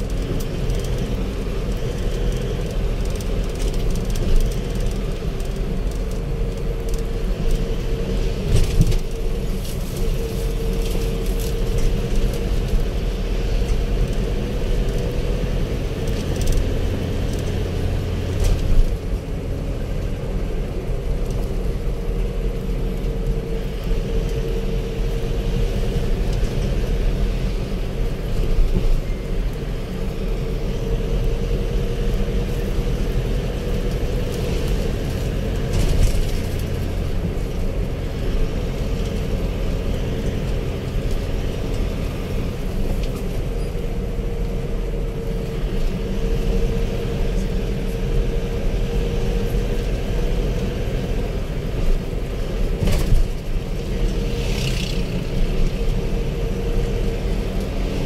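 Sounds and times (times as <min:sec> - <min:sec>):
constant hum: 0:00.0 - 0:58.0
engine and tyre rumble: 0:00.0 - 0:58.0.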